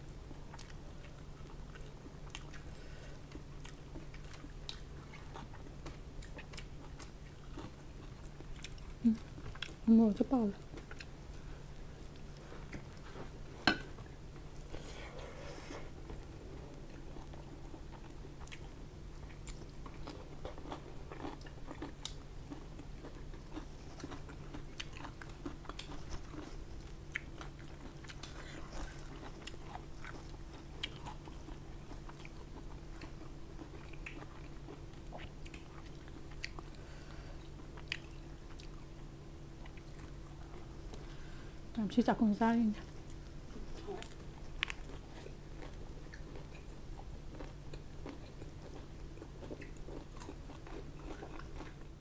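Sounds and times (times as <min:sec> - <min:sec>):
person chewing food: 0:00.0 - 0:09.8, 0:10.6 - 0:41.4, 0:42.8 - 0:52.0
steady low hum: 0:00.0 - 0:52.0.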